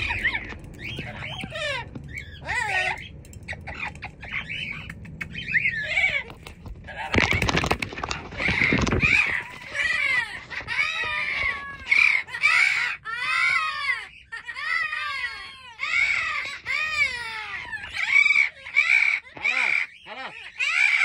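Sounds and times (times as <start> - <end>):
parrots squawking: 0.0 - 21.0.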